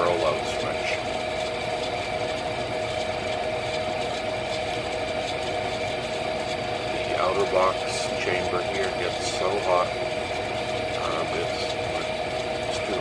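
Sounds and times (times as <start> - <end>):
gas furnace humming: 0.0 - 13.0.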